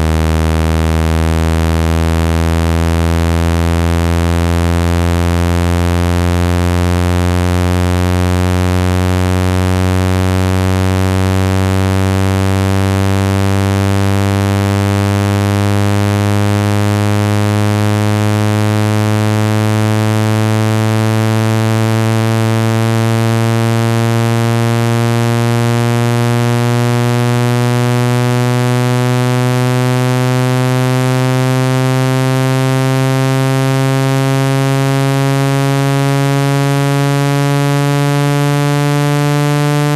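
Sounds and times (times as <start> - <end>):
synthetic low buzzing tone: 0.0 - 39.9.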